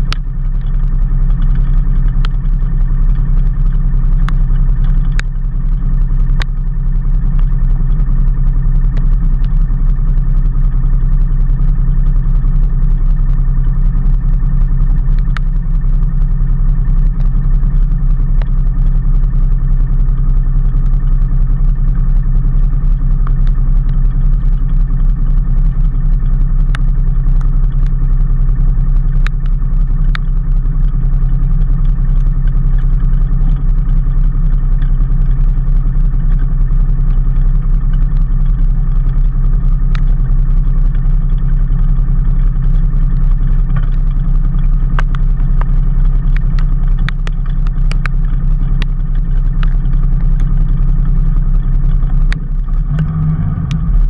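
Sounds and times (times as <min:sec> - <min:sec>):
sharp ticks: 0:00.0 - 0:54.0
vehicle engine and road noise: 0:00.0 - 0:54.0.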